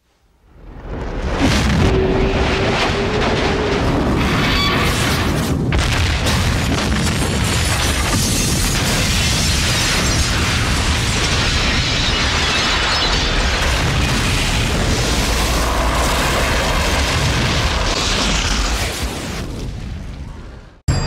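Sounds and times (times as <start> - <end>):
explosion rumble: 0.5 - 20.8.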